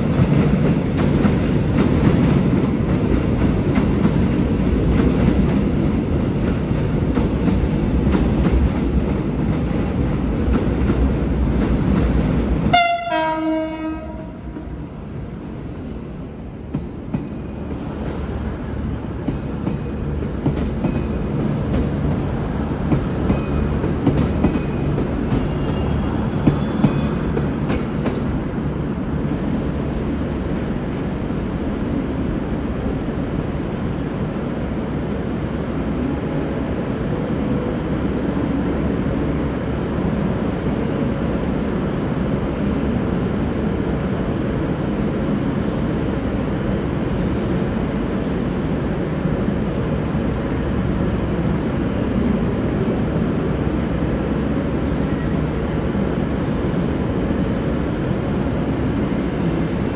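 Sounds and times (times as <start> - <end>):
diesel train rumbling: 0.0 - 59.9.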